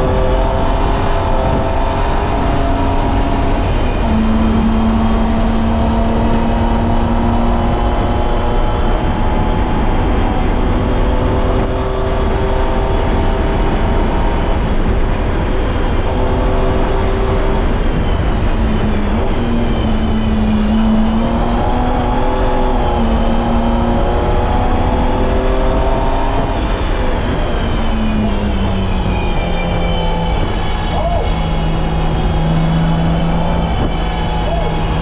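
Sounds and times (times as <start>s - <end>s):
car engine revving: 0.0s - 35.0s
loud steady rushing noise: 0.0s - 35.0s.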